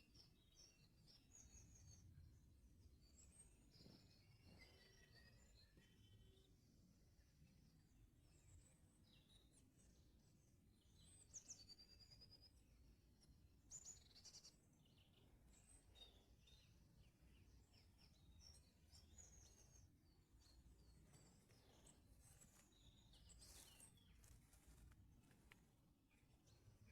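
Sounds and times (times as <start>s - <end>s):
songbirds singing and chirping: 0.0s - 26.9s.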